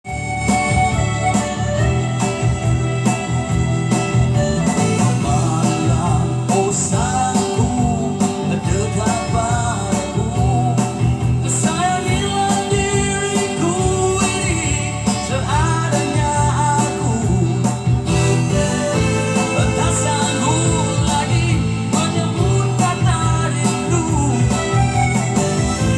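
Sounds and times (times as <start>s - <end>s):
guitar accompaniment: 0.0s - 25.9s.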